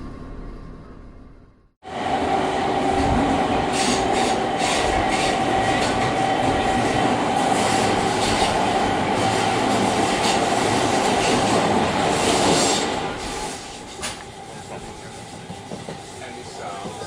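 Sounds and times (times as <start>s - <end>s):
train running noise with whine: 0.0s - 17.0s.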